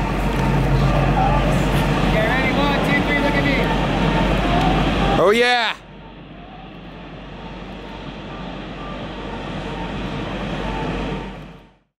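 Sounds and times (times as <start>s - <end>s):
steady rushing noise: 0.0s - 11.9s.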